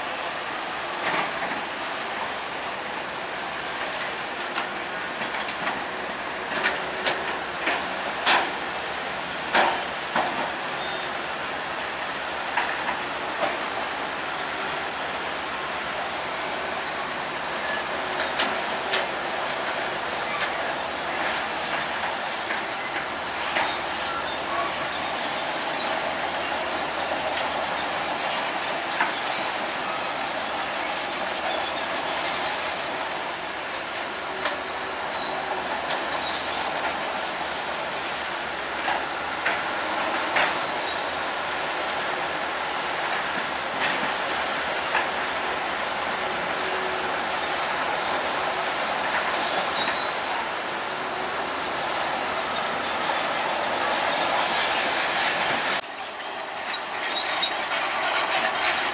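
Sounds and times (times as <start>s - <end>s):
bulldozer tracks clattering: 0.0s - 58.9s.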